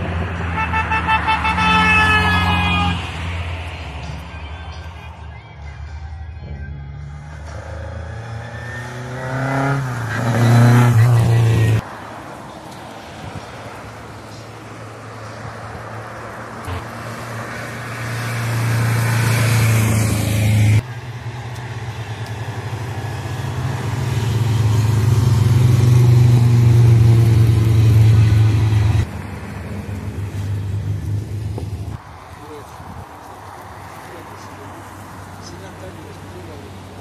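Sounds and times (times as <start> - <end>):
race car engines at full throttle: 6.5 - 37.0.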